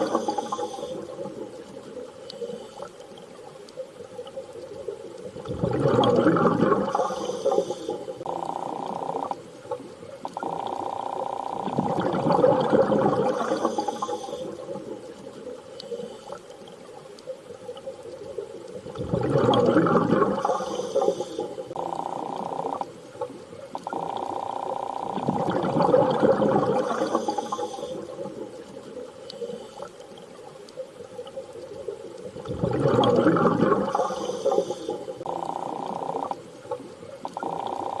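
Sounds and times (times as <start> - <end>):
underwater rushing water surges: 0.0 - 15.8, 16.4 - 38.0.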